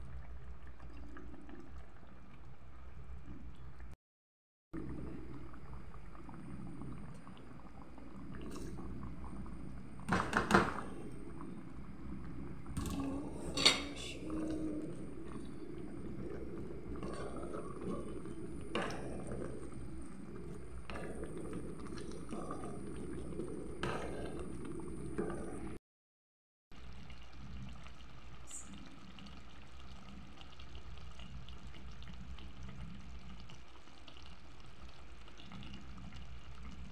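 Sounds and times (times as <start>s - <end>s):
broth simmering in a pot: 0.0s - 4.0s, 4.8s - 25.8s, 26.7s - 36.9s.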